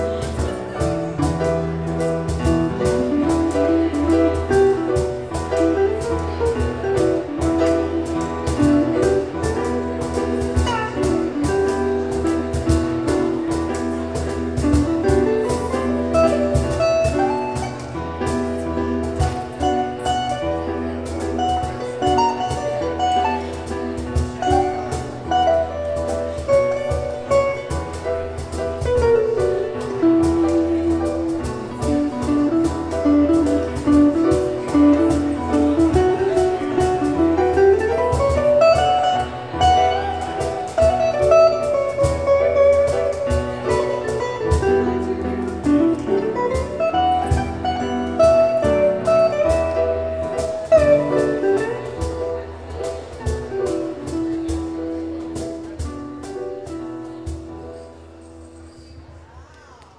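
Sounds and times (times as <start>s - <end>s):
instrumental music: 0.0s - 59.0s.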